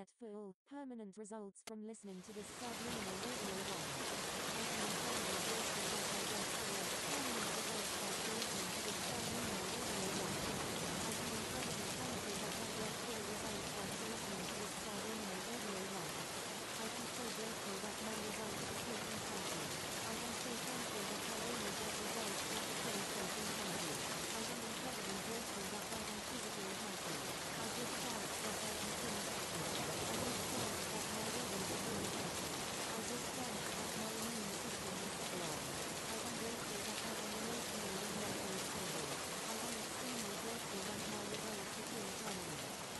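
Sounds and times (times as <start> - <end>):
steady rain: 2.3 - 42.9.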